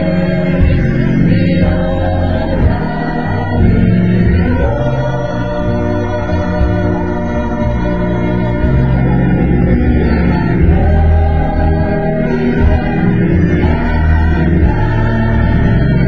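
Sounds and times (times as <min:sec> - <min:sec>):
gospel choir singing: 0:00.0 - 0:16.0
organ: 0:00.0 - 0:16.0.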